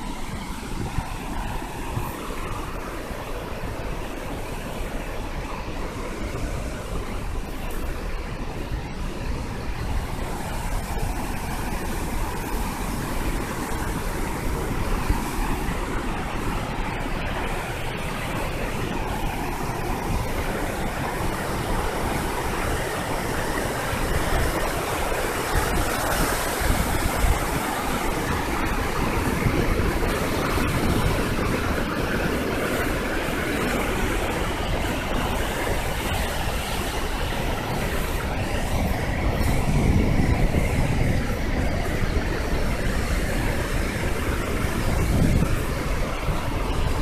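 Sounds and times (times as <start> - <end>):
river rapids and waterfall rushing: 0.0 - 47.0.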